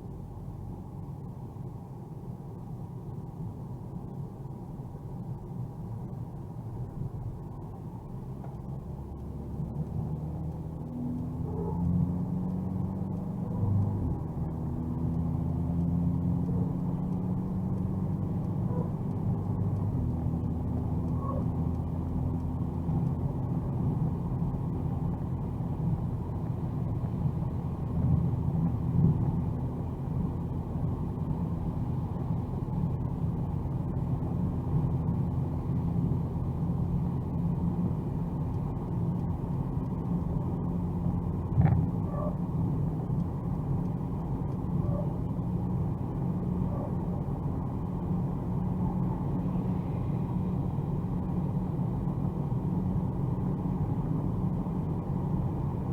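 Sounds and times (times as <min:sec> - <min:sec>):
muffled car engine droning: 0:00.0 - 0:55.9
road and tyre rumble: 0:00.0 - 0:55.9.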